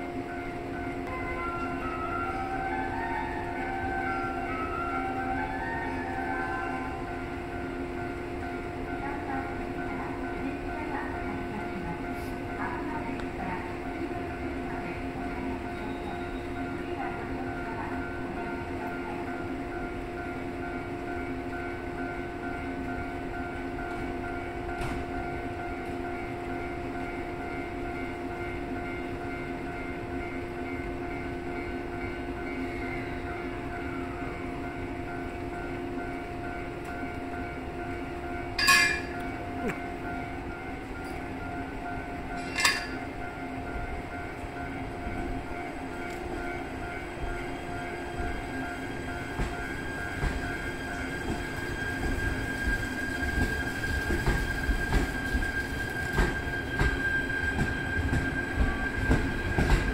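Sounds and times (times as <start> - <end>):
electric train humming: 0.0 - 59.9.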